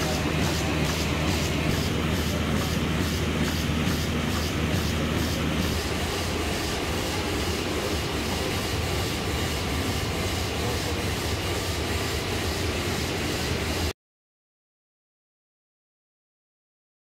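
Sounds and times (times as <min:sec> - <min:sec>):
printing machine running: 0:00.0 - 0:13.9.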